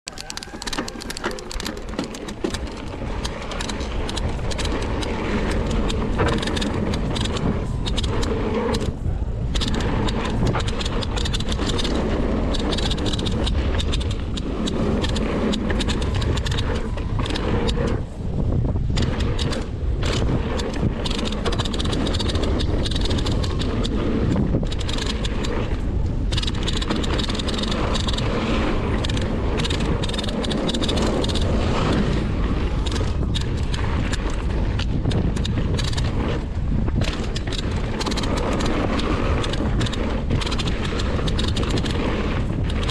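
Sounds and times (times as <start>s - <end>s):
bike clicking and rattling: 0.0s - 42.9s
wind buffeting microphone: 0.0s - 42.9s
bike tyres rumbling on dirt: 0.1s - 42.9s.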